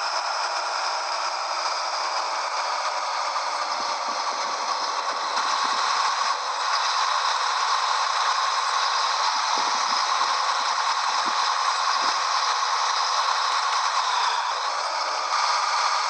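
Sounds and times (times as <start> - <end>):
loud rushing noise with rattle: 0.0 - 16.0.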